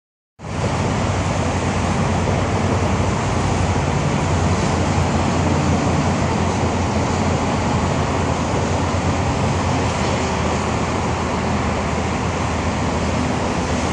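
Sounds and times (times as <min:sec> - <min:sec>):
steady rushing noise: 0:00.4 - 0:13.9.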